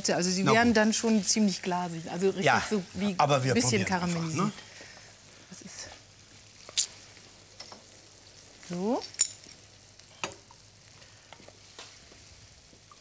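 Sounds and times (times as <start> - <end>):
potatoes sizzling in a frying pan: 0.0 - 13.0.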